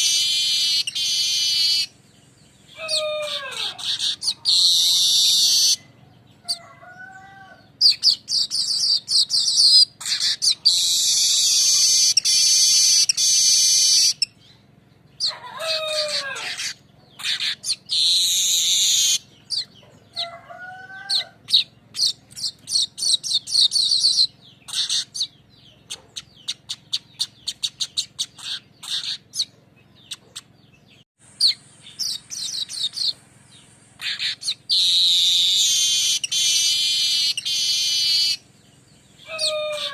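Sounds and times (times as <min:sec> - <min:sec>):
weaver bird buzzy chatter: 0:00.0 - 0:39.9.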